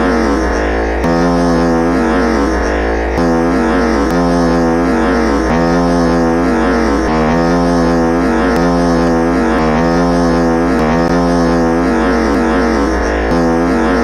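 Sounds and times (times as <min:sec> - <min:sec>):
comedy fart sound effect: 0:00.0 - 0:14.0.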